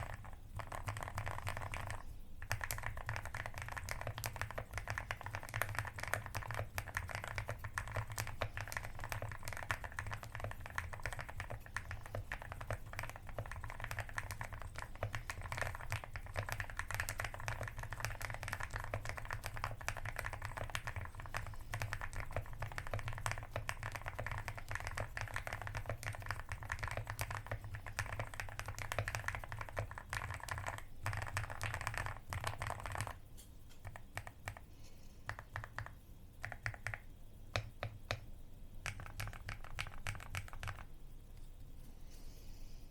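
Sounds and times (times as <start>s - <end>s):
fast typing on mechanical keyboard: 0.0s - 34.6s, 35.2s - 40.9s.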